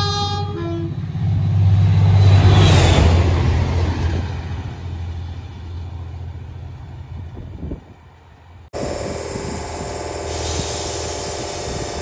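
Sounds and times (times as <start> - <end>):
diesel locomotive engine hum: 0.0 - 12.0
train passing at speed: 0.0 - 12.0.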